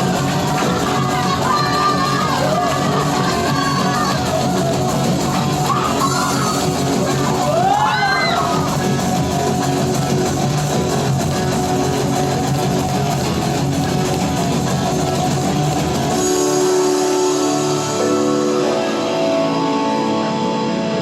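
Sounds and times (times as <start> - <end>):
guitar-led rock band music: 0.0 - 21.0.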